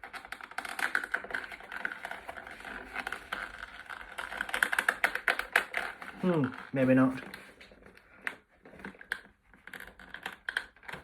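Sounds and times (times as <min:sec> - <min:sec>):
plastic packaging clicking and crackling: 0:00.0 - 0:11.0.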